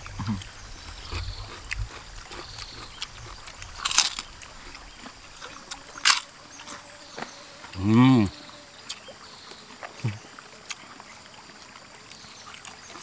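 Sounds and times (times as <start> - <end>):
people chewing: 0.0 - 13.0.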